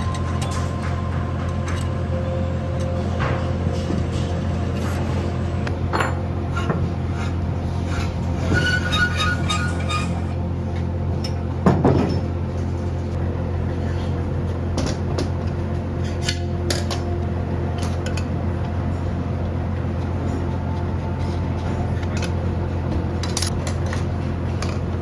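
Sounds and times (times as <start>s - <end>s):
electric hum of machinery: 0.0s - 25.0s.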